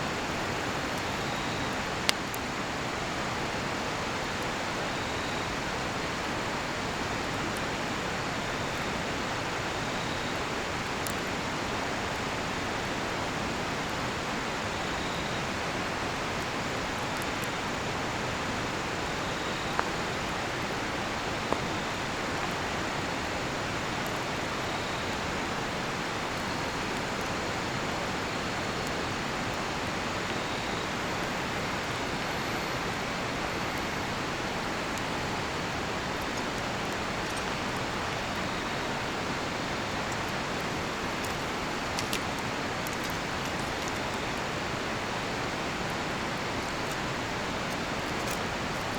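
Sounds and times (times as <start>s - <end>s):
crickets chirping: 0.0s - 48.9s
river rushing: 0.0s - 48.9s
campfire popping: 0.1s - 48.9s.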